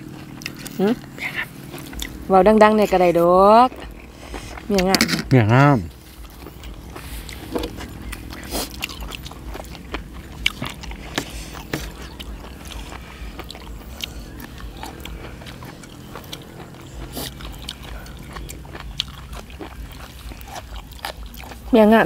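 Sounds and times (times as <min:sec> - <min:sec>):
people chewing and eating: 0:00.0 - 0:22.0.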